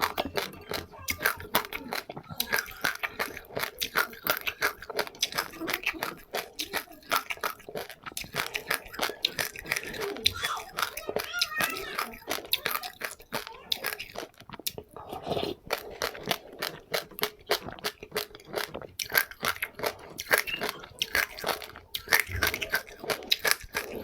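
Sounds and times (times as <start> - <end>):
chewing crunchy seeds: 0.0 - 24.0.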